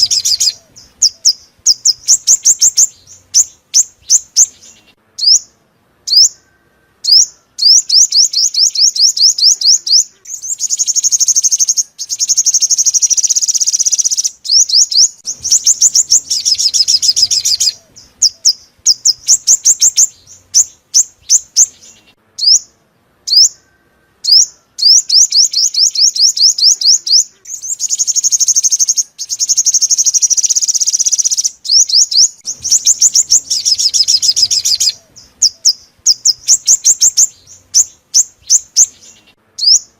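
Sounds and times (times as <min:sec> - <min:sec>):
sunbird song: 0:00.0 - 0:39.9.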